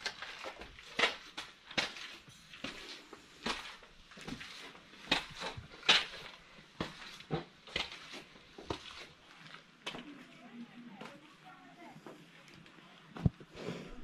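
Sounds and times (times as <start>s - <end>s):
footsteps on stone steps: 0.0s - 10.3s, 11.0s - 12.4s.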